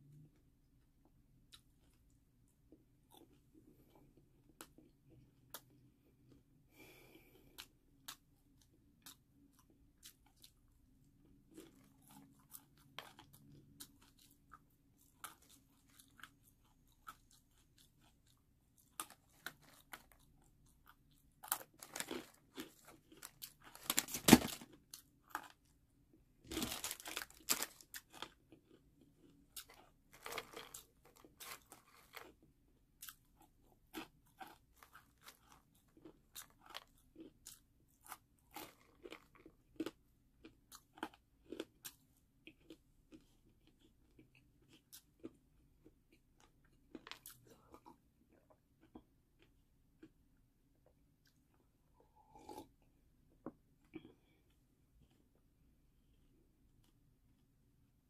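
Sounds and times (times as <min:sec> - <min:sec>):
person chewing crunchy food: 0:01.5 - 0:06.6, 0:07.4 - 0:25.8, 0:26.4 - 0:50.2, 0:50.8 - 0:55.4.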